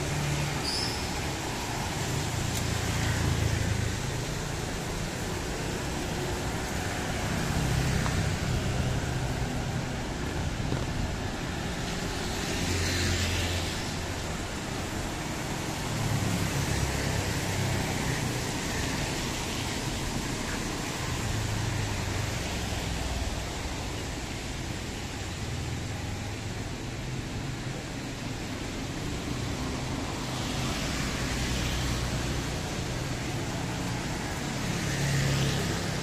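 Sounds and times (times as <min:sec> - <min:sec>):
tyres hissing on wet road: 0:00.0 - 0:36.0.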